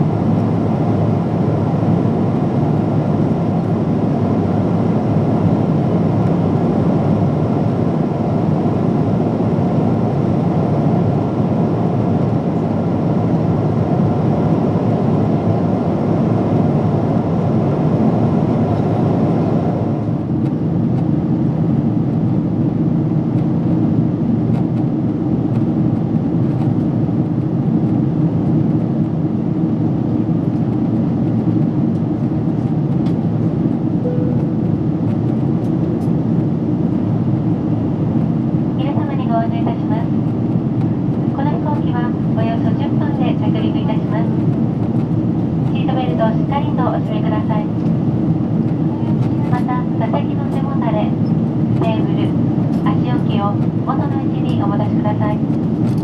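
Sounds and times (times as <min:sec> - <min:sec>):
airplane cabin noise: 0:00.0 - 0:56.0.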